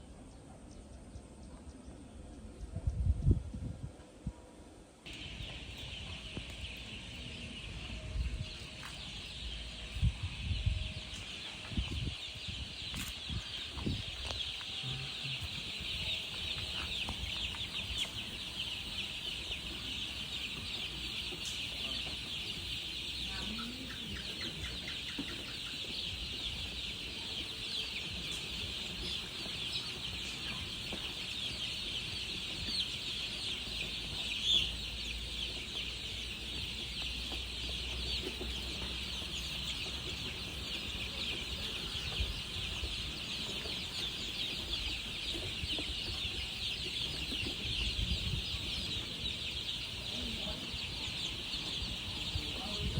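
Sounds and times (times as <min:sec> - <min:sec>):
baby chicks peeping: 0:05.1 - 0:52.9.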